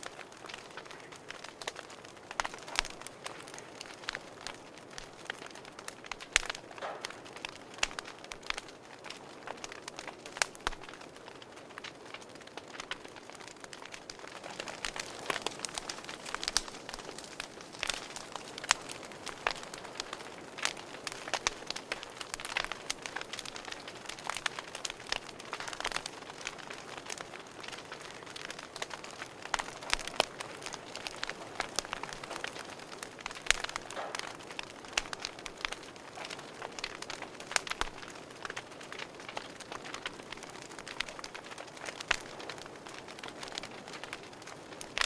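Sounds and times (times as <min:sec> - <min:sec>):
burning logs crackling and popping: 0:00.0 - 0:45.0
wood fire hissing: 0:00.0 - 0:45.0.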